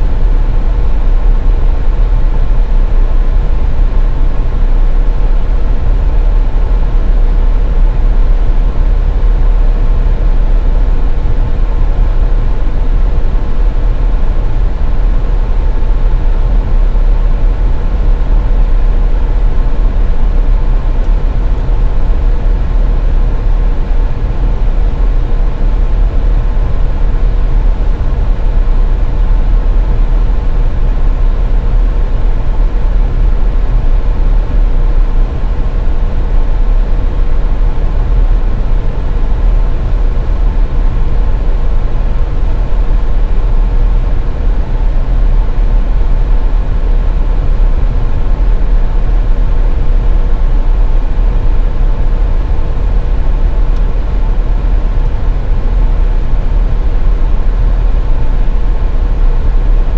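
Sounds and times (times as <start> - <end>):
faint constant hum: 0.0 - 59.9.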